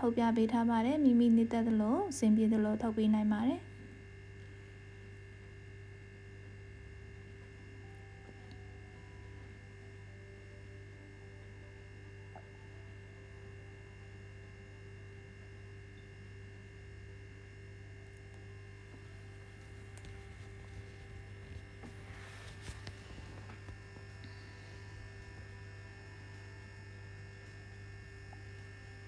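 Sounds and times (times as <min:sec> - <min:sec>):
faint electrical hum: 0:00.0 - 0:29.0.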